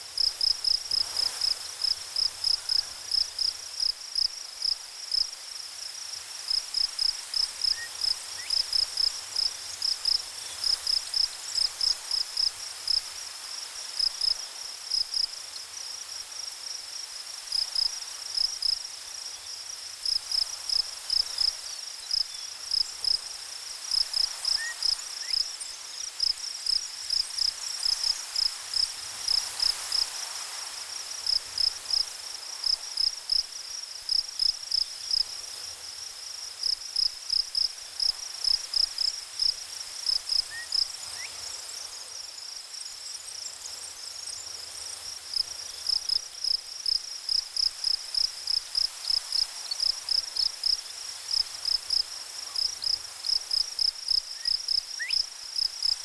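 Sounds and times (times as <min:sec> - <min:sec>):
faint steady hiss: 0:00.0 - 0:56.0
insect chirping: 0:00.2 - 0:56.0.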